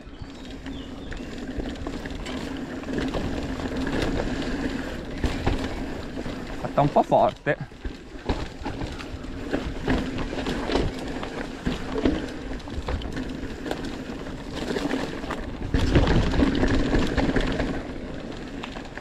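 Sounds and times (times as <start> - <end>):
bike tyres rolling on dirt: 0.0 - 19.0
bike clattering and knocking: 0.3 - 19.0.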